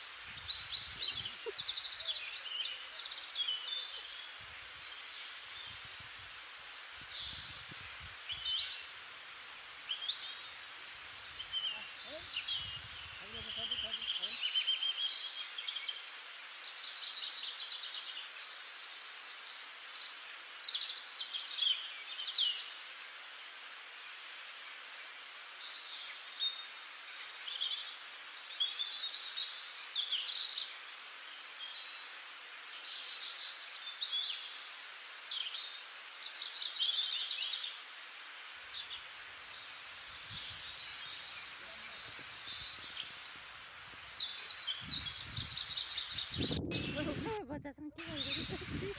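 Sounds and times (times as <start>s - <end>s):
songbirds chirping and trilling: 0.0s - 47.4s, 48.0s - 48.9s
faint steady hiss: 0.0s - 48.9s.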